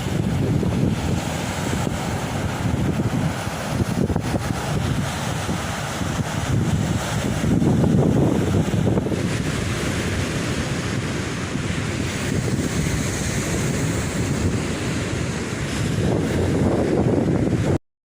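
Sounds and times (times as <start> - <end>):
ocean surf breaking: 0.0 - 17.8
wind buffeting microphone: 0.0 - 17.8.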